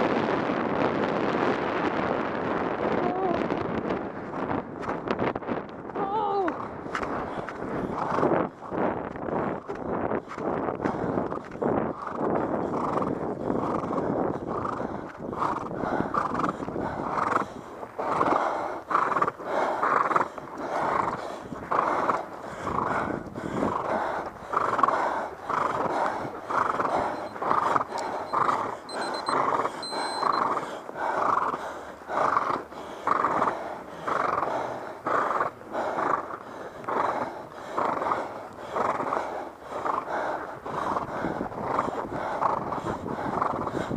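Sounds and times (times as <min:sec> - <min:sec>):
horse breathing hard: 0:06.4 - 0:43.9.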